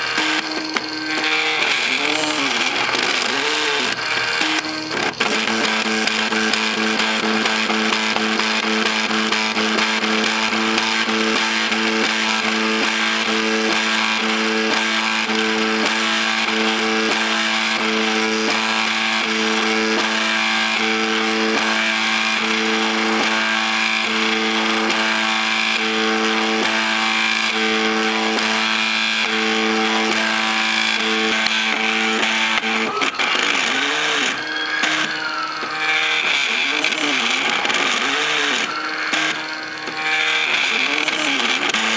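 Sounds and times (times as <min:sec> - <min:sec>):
printer stepper motors whining: 0:00.0 - 0:41.9.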